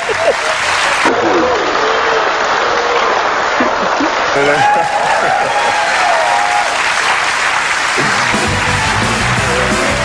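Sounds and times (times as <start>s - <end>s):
audience applauding: 0.0s - 10.0s
people cheering: 0.0s - 10.0s.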